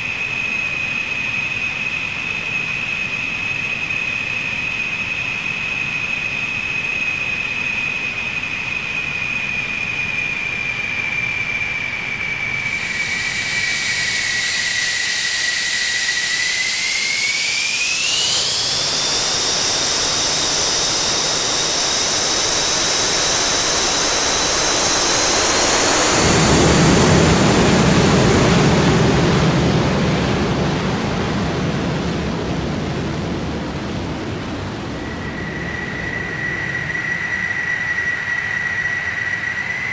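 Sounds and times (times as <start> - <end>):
deep jet engine roar: 0.0 - 39.9
jet turbine whine: 0.0 - 39.9.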